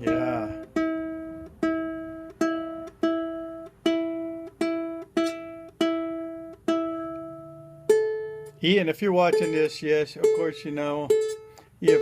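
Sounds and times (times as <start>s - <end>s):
ukulele string plucked: 0.0s - 12.0s.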